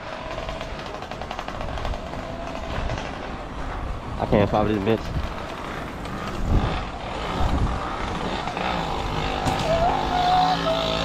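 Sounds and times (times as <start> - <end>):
street traffic noise: 0.0 - 11.0
vehicle engine humming: 0.0 - 11.0.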